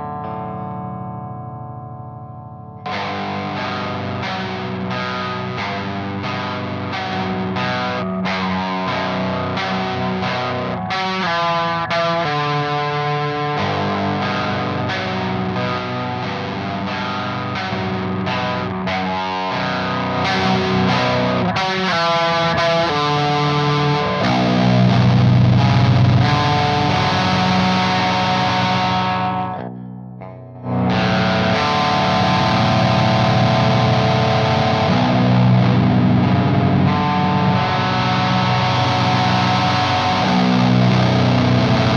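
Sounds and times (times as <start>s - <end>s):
distorted electric guitar arpeggios: 0.0s - 41.9s.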